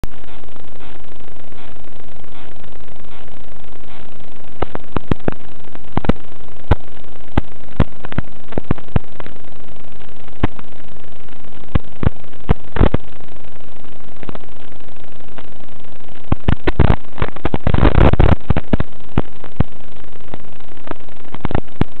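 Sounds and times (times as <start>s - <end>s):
loud static hiss: 0.0s - 22.0s
sharp clicks and pops: 0.0s - 22.0s
static crackling: 0.0s - 22.0s.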